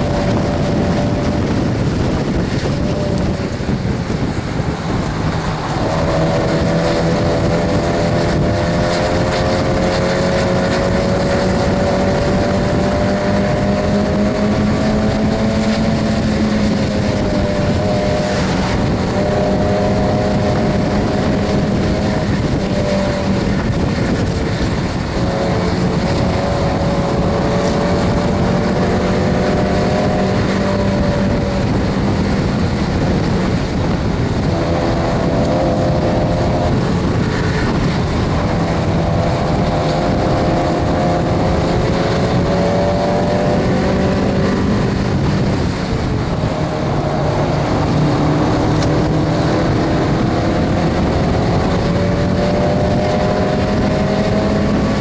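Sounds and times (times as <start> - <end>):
car engine revving: 0.0 - 55.0
wind and road noise: 0.0 - 55.0.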